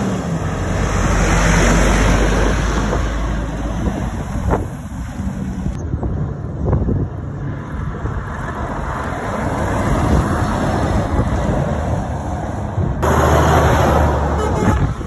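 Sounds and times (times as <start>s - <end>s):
lorry diesel engine: 0.0s - 15.0s
wind on microphone: 0.7s - 15.0s.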